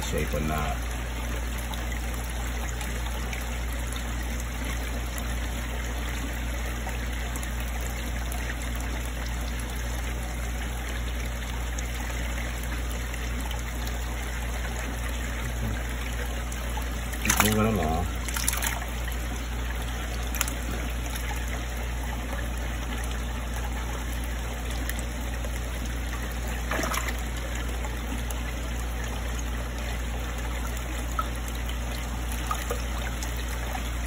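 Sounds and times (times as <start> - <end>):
low steady hum: 0.0 - 34.0
water trickling: 0.0 - 34.0.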